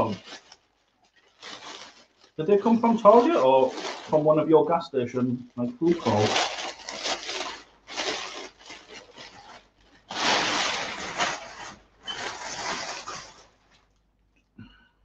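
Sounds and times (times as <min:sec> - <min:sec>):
packing paper crinkling: 0:00.0 - 0:14.1.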